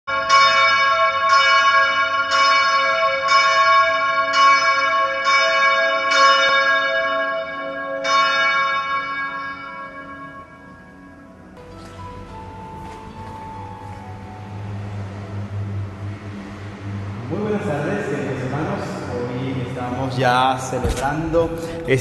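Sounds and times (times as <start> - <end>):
church bell tolling: 0.1 - 22.0.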